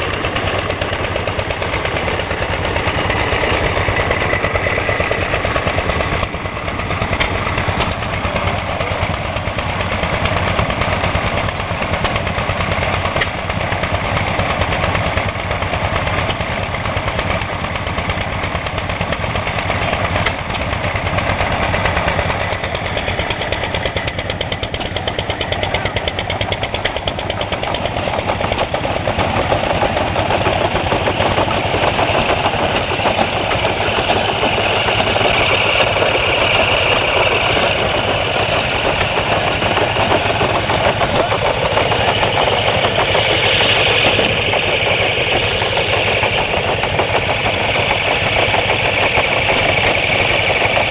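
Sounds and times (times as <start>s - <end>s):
stationary engines running: 0.0s - 50.9s.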